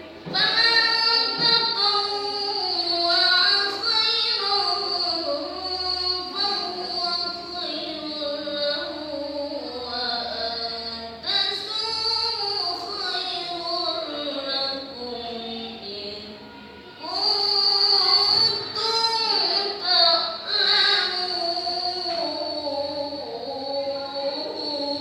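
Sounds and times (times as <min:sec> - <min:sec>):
person reciting melodically: 0:00.0 - 0:25.0.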